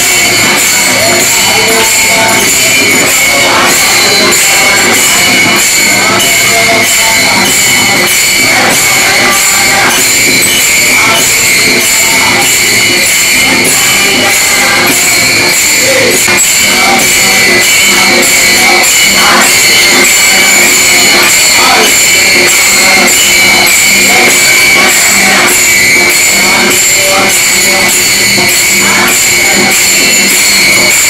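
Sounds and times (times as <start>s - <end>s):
group chanting: 0.0s - 31.0s
hand cymbals struck together: 0.0s - 31.0s.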